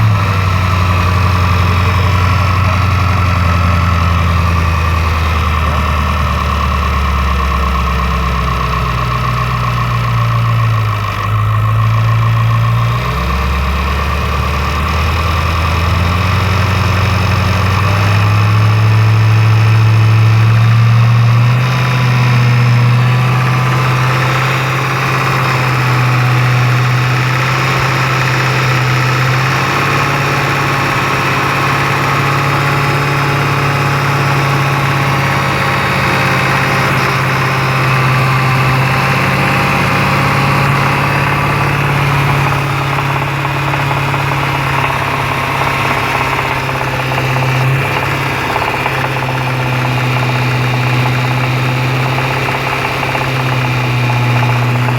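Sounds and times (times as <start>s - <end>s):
car engine idling: 0.0s - 54.9s
engine knocking: 0.0s - 54.9s.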